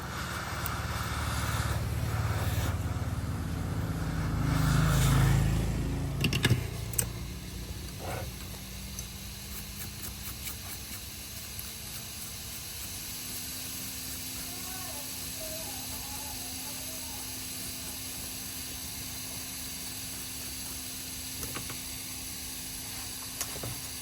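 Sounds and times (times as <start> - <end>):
small motor humming: 0.0 - 24.0.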